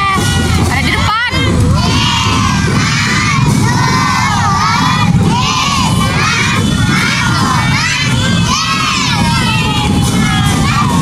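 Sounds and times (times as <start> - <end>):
children shouting and cheering: 0.0 - 11.0.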